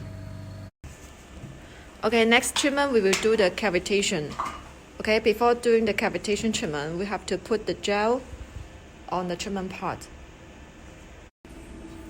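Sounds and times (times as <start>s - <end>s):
faint hum and hiss: 0.0s - 12.0s.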